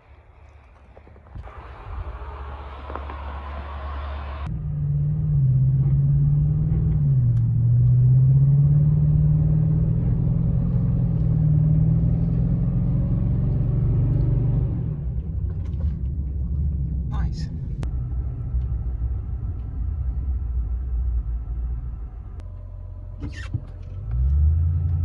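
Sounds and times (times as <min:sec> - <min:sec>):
road rumble: 0:00.0 - 0:25.0
truck engine droning: 0:00.0 - 0:25.0.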